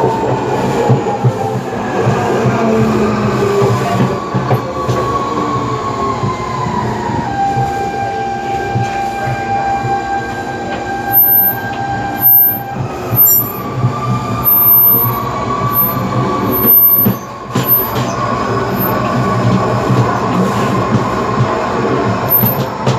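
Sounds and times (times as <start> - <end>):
wheels rumbling on rails: 0.0 - 22.9
train traction motors whining: 2.8 - 22.9.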